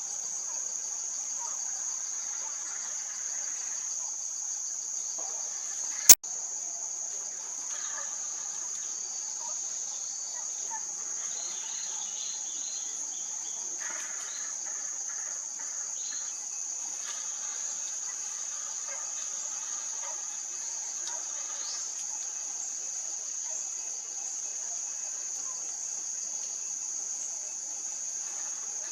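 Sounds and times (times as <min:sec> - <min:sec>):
insects droning: 0:00.0 - 0:28.9.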